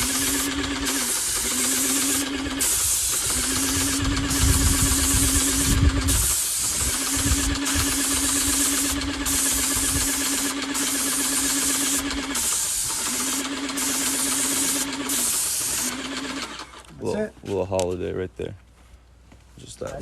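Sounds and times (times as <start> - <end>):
paint spray gun hissing: 0.0 - 16.8
pump motor humming: 0.0 - 16.9.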